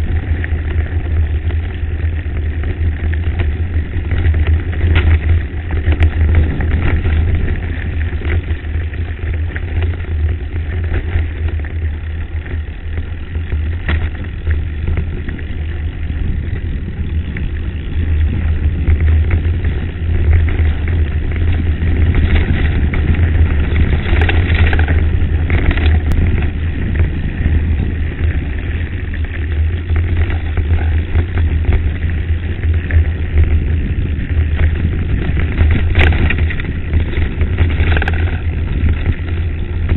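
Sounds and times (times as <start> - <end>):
bike rattling on stones: 0.0 - 39.9
wind buffeting microphone: 0.0 - 39.9.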